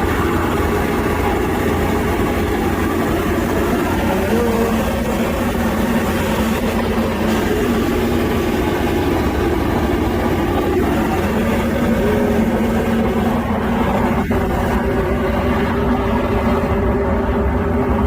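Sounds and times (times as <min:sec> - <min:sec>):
sewer jetting machine pump humming: 0:00.0 - 0:18.0.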